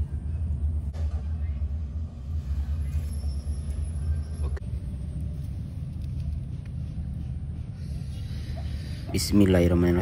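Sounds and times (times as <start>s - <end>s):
low unsteady rumble: 0.0s - 10.0s.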